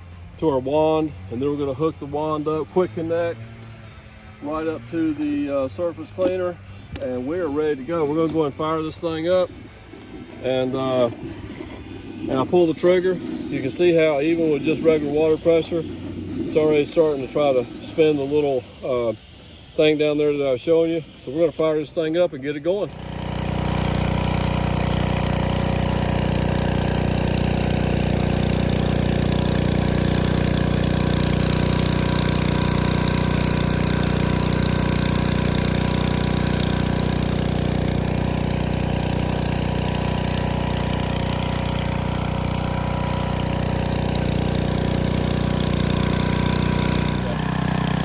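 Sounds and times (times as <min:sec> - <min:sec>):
pressure washer running: 0:00.0 - 0:48.0
water spraying on concrete: 0:07.1 - 0:48.0.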